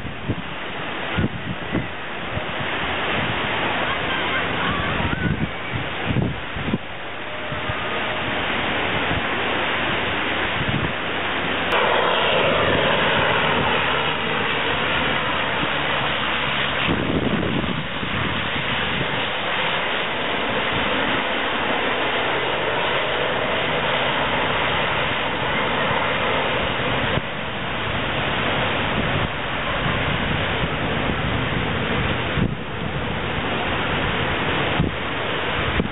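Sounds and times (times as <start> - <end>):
aircraft engines droning: 0.0 - 35.9.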